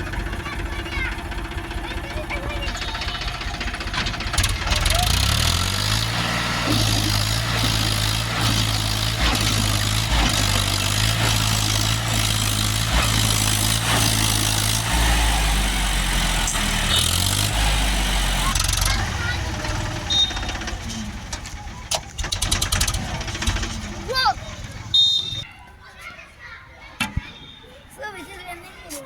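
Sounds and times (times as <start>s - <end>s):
tractor diesel engine under load: 0.0s - 25.4s.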